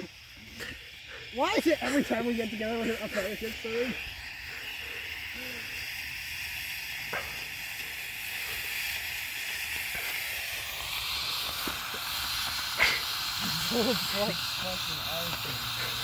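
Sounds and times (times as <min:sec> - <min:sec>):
smoke bomb hissing: 0:00.0 - 0:16.0.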